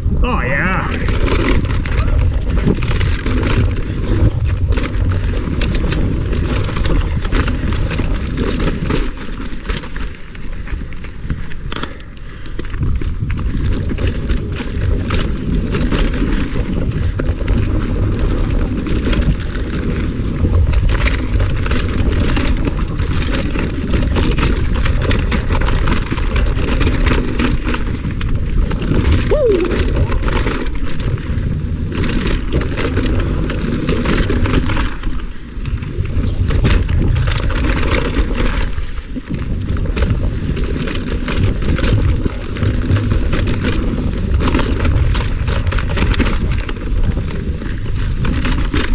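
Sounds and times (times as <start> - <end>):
bike rattles and knocks: 0.0 - 48.9
tyres rushing on packed dirt: 0.0 - 48.9
wind buffeting on microphone: 0.0 - 48.9.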